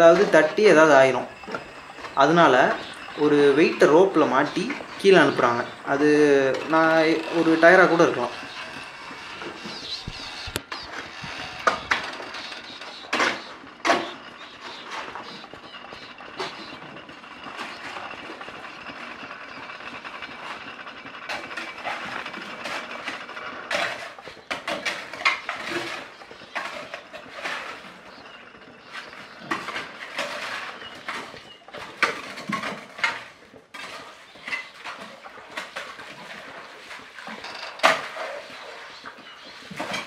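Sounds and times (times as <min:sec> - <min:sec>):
winch and pulley running: 0:00.0 - 0:40.0.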